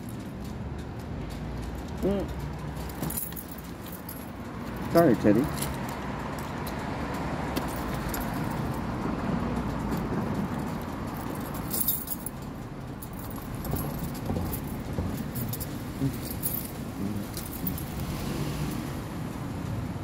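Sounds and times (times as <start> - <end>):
light jingling clicks: 0.0 - 18.9.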